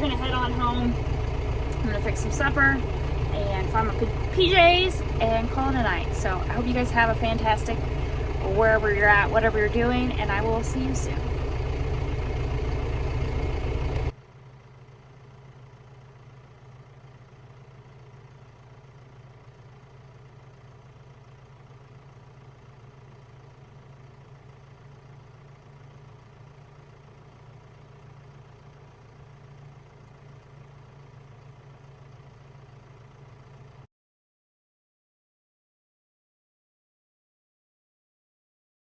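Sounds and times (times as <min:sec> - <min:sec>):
faint low engine hum: 0:00.0 - 0:33.9.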